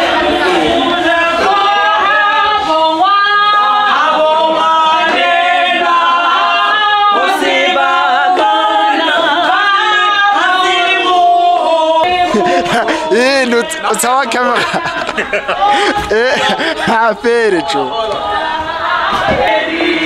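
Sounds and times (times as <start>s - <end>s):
women singing in chorus: 0.0s - 20.0s.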